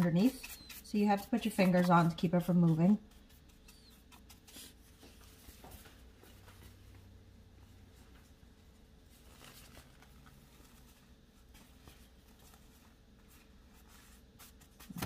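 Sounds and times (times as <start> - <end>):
brush strokes on dough: 0.0 - 15.0
pastry sheet rustling: 0.0 - 15.0.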